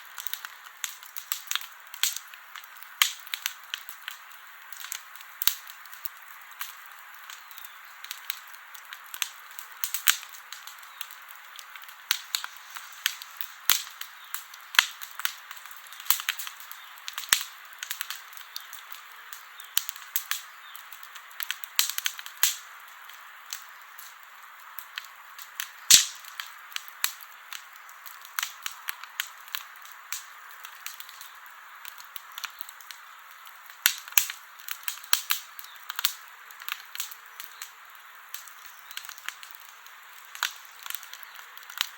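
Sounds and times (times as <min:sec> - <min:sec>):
campfire crackling and popping: 0:00.0 - 0:41.9
soft steady fire hiss: 0:00.0 - 0:41.9.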